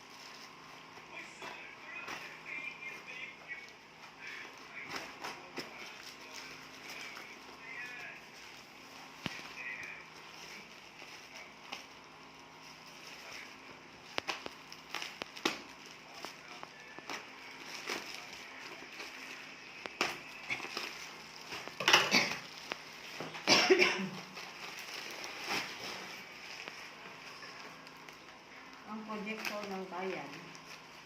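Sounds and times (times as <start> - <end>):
rasping rustling of packaging: 0.0 - 31.0.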